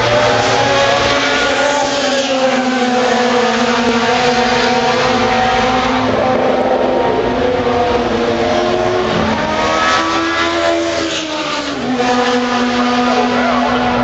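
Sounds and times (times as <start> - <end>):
race car passing by: 0.0 - 14.0
steady engine tone: 0.0 - 14.0.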